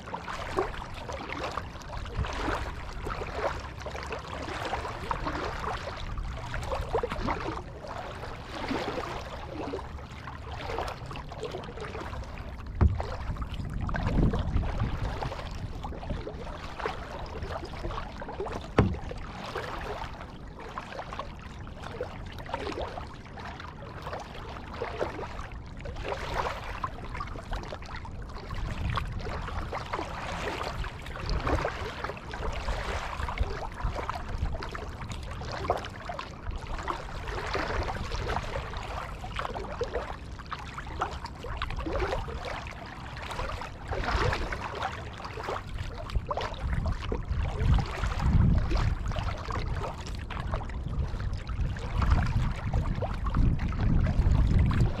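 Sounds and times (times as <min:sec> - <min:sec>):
paddle splashing in water: 0:00.0 - 0:55.0
water running along hull: 0:00.0 - 0:55.0.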